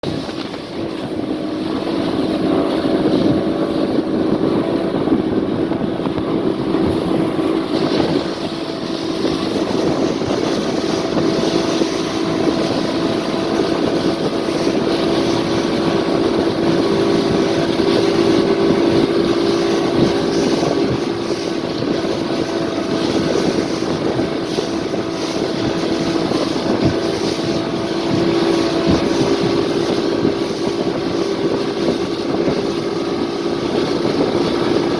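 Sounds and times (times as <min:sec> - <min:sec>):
motorboat engine running: 0:00.0 - 0:34.9
water rushing: 0:00.0 - 0:34.9
wind rush: 0:00.0 - 0:34.9.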